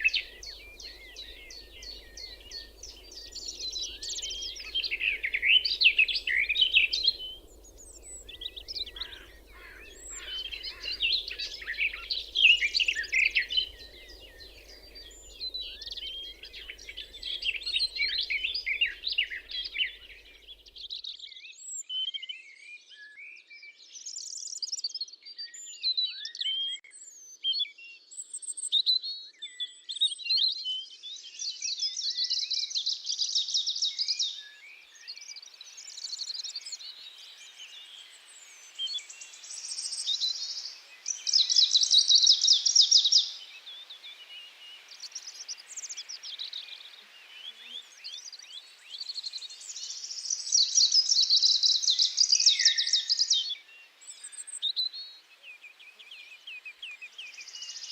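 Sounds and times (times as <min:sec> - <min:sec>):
songbirds chirping and warbling: 0:00.0 - 0:57.9.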